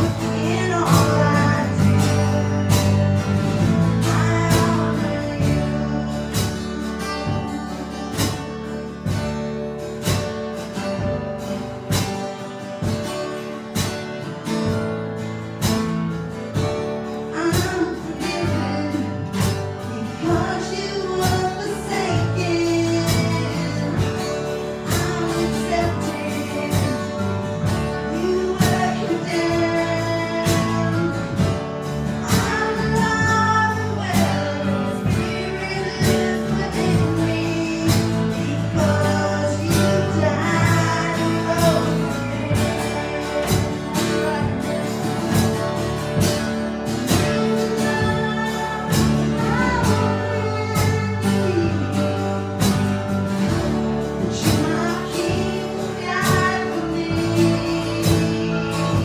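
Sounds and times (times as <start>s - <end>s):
person singing: 0.0s - 8.4s, 17.1s - 59.0s
acoustic guitar strumming: 0.0s - 59.0s.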